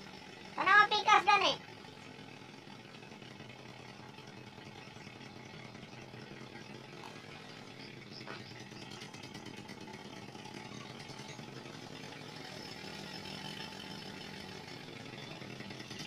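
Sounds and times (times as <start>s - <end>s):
suv engine running at low speed: 0.0s - 16.0s.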